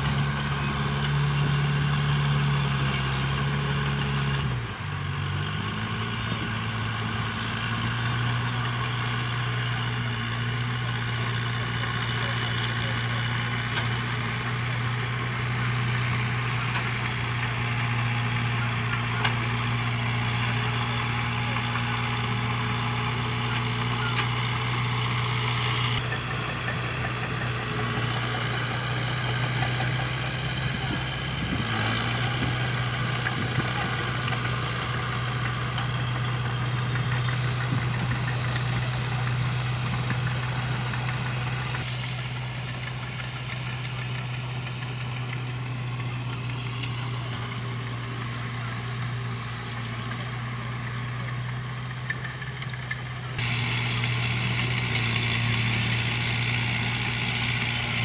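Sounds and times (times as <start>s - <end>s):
heavy machine diesel engine: 0.0s - 58.0s.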